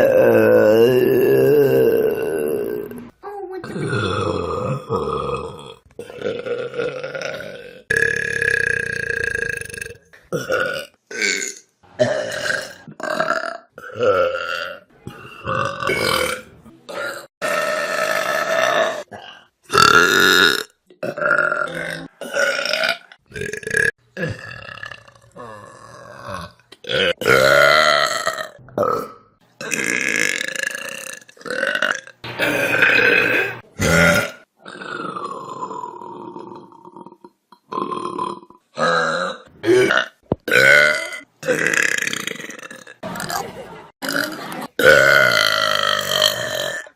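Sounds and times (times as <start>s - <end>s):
people burping: 0.0s - 46.9s.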